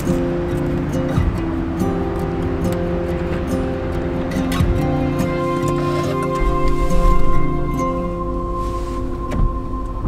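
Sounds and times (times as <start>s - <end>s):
music of held notes: 0.0s - 10.0s.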